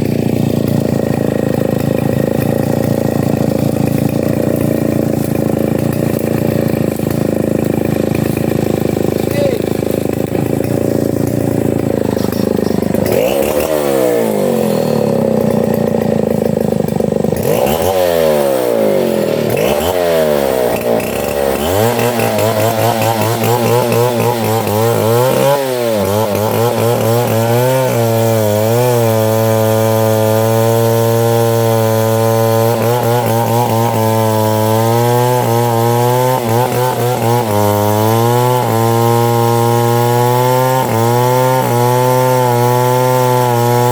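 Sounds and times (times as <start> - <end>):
chainsaw revving: 0.0 - 43.9.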